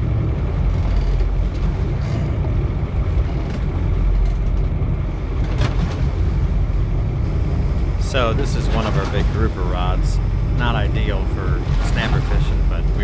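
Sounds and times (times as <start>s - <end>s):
choppy sea wash: 0.0s - 13.0s.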